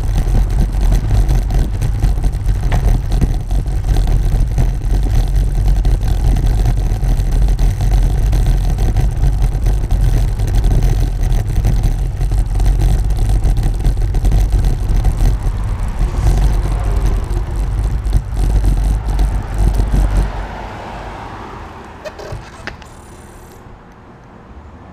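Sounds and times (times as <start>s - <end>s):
wheels rattling over cobblestones: 0.0s - 24.2s
quiet street sound: 0.0s - 24.9s.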